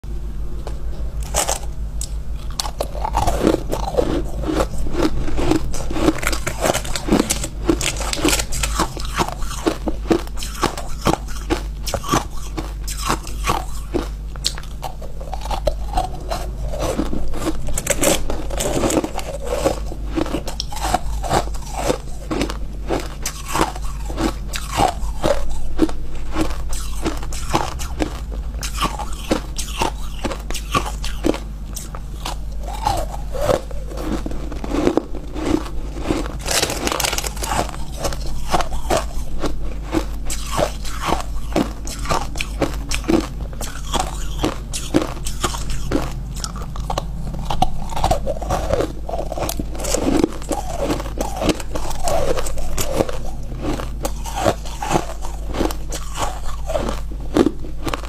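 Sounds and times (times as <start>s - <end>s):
ice being crunched and chewed: 1.2s - 58.0s.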